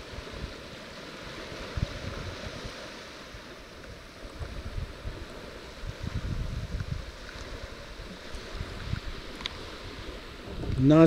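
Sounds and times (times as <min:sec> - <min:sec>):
small waves washing onto sand: 0:00.0 - 0:11.0
wind on microphone: 0:00.0 - 0:11.0.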